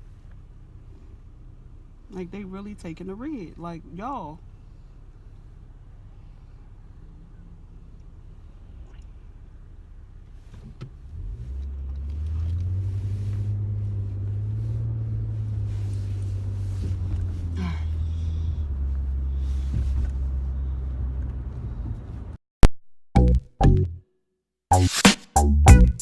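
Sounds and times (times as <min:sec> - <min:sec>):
car engine and road rumble: 0:00.0 - 0:22.4.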